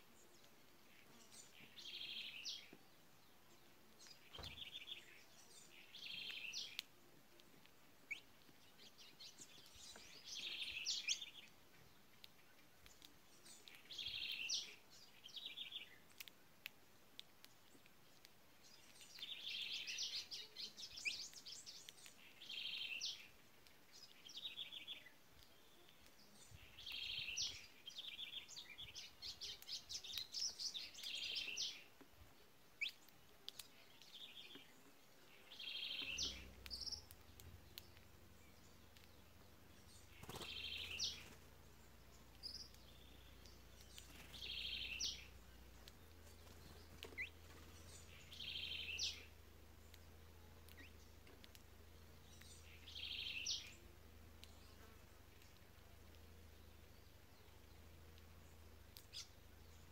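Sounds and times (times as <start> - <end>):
songbirds trilling: 0.0 - 6.9, 8.0 - 16.1, 17.5 - 59.9.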